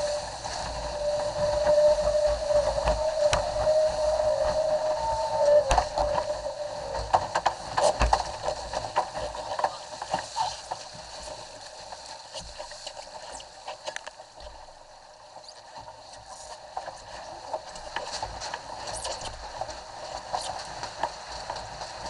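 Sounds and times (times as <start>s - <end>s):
water rushing along hull: 0.0s - 22.0s
waves slapping and knocking: 0.0s - 22.0s.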